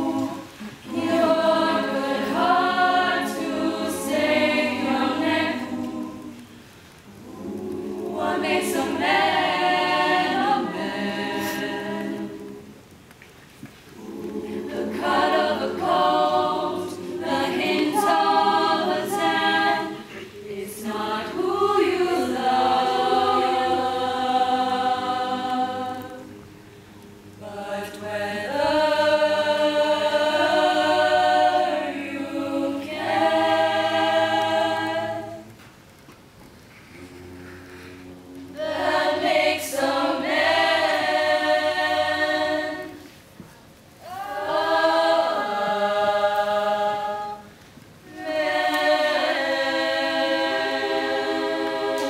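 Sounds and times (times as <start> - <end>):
choir singing unaccompanied: 0.0 - 12.9, 13.8 - 35.8, 36.9 - 52.0.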